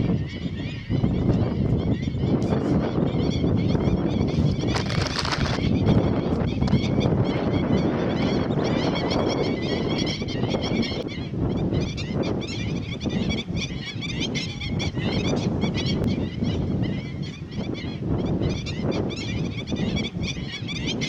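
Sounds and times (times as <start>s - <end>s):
many birds calling: 0.0s - 21.0s.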